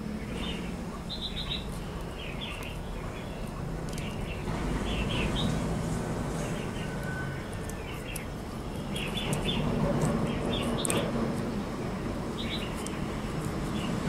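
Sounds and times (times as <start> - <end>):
small birds chirping: 0.0 - 14.0
knife scraping pumpkin rind: 1.6 - 11.6, 12.2 - 14.0.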